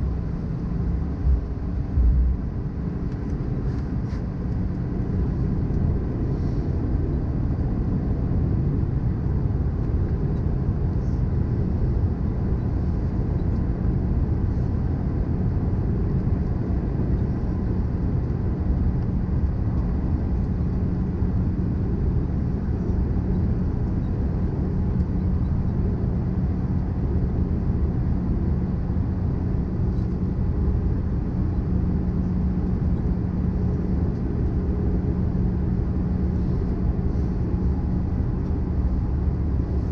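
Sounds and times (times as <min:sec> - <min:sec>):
airplane cabin rumble: 0:00.0 - 0:39.9
low hum: 0:00.0 - 0:39.9.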